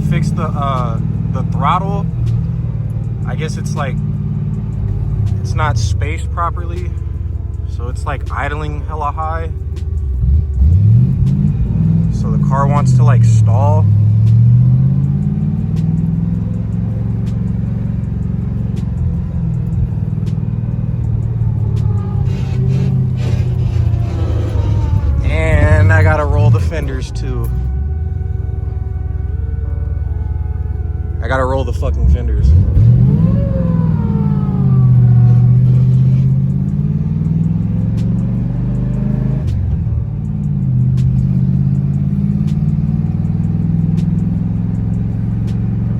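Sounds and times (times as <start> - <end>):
engine idling with low rumble: 0.0 - 45.9.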